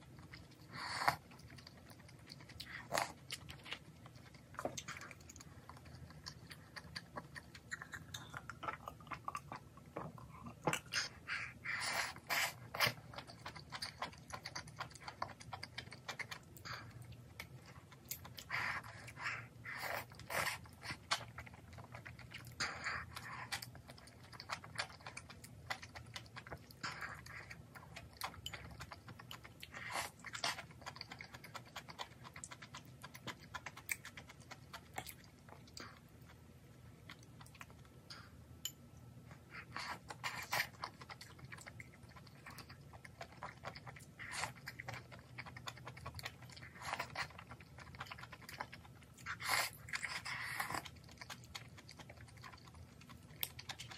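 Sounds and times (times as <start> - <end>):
wet chewing: 0.0 - 38.3, 39.3 - 53.9.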